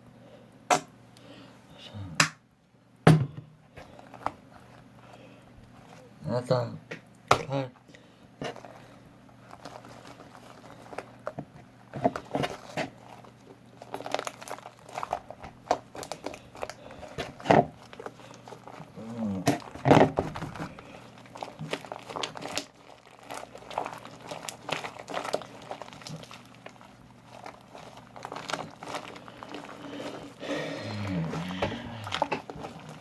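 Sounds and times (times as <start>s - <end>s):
slime crackling and squelching: 3.7s - 6.2s, 7.5s - 33.0s.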